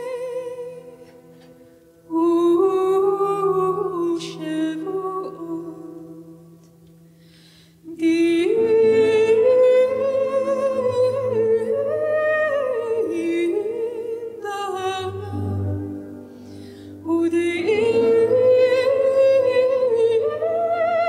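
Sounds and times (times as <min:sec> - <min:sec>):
woman singing wordless melody: 0:00.0 - 0:06.8, 0:07.8 - 0:16.2, 0:16.9 - 0:21.0.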